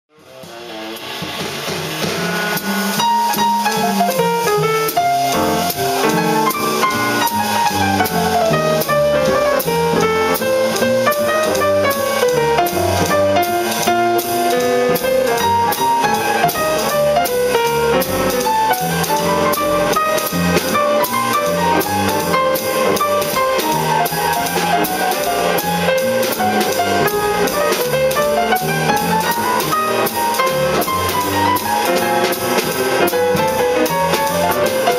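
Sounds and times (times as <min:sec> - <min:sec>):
bass: 0:00.1 - 0:34.9
drum kit with cymbals: 0:00.1 - 0:34.9
piano: 0:00.1 - 0:34.9.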